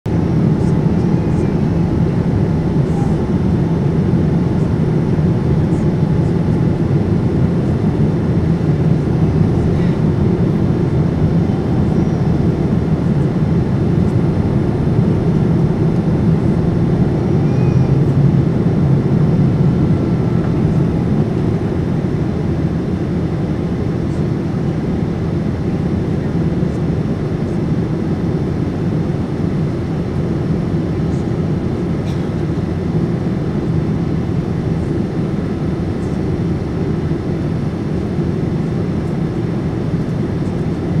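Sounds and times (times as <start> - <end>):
airplane cabin engine rumble: 0.1 - 41.0.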